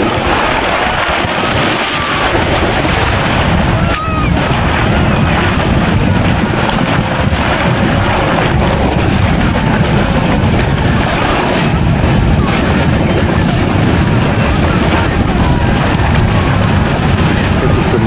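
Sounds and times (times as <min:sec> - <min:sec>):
water rushing down a drain: 0:00.0 - 0:18.0.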